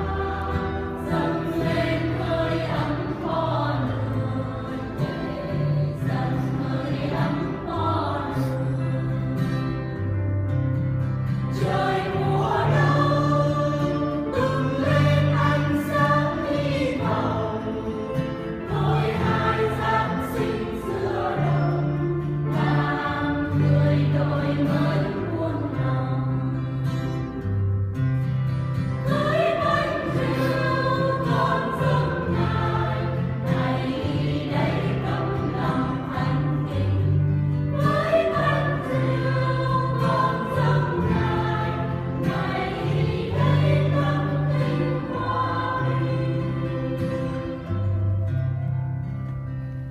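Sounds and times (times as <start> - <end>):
accompaniment with held bass notes: 0.0 - 49.9
church choir singing a hymn: 0.0 - 49.9.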